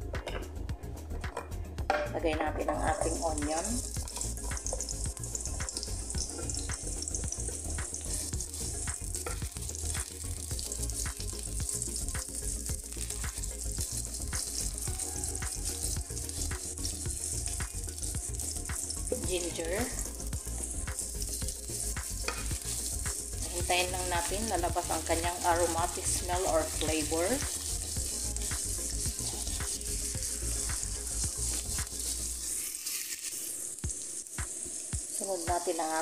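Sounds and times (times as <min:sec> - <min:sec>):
onions sizzling in oil: 0:01.9 - 0:36.0.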